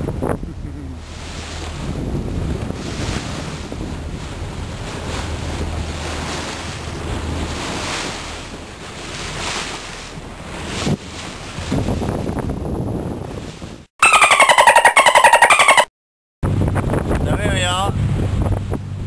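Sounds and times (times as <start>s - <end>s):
wind buffeting microphone: 0.0s - 13.9s, 16.4s - 19.0s
water rushing past boat hull: 0.0s - 19.0s.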